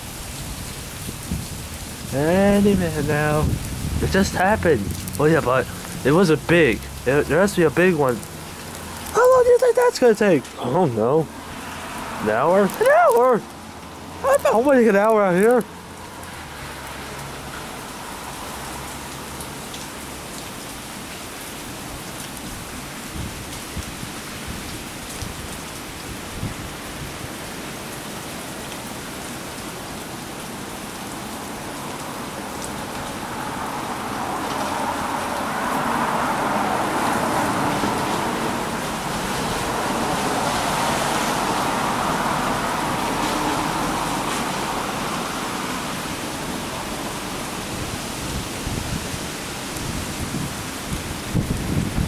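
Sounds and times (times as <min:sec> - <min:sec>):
steady rain falling: 0:00.0 - 0:52.0
raindrops ticking close by: 0:00.4 - 0:52.0.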